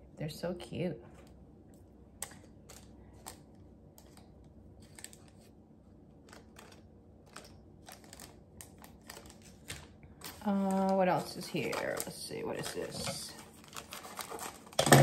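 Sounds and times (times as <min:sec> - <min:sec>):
packaging rustling: 0:02.2 - 0:15.0.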